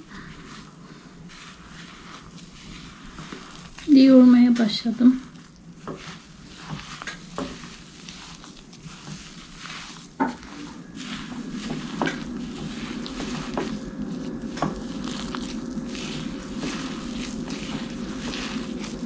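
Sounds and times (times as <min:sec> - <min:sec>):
dough being kneaded by hand: 0:00.0 - 0:19.0.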